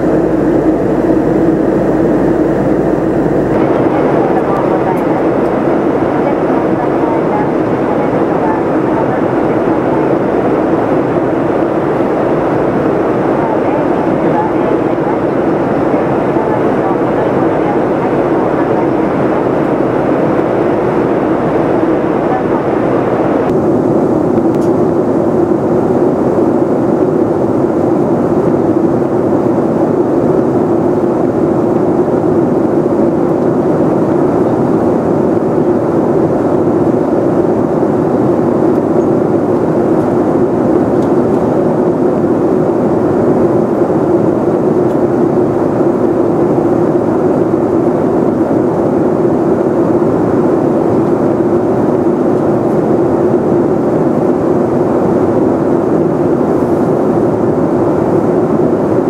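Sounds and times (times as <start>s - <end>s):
airplane cabin noise: 0.0s - 59.0s.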